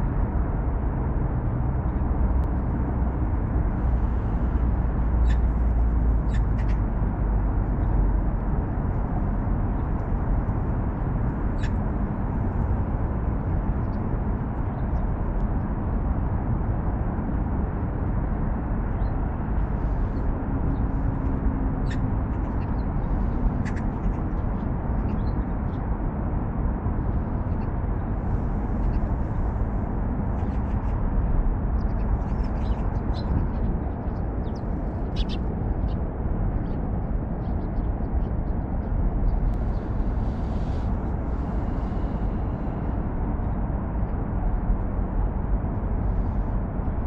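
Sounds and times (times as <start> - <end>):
low rumble of traffic: 0.0 - 47.0.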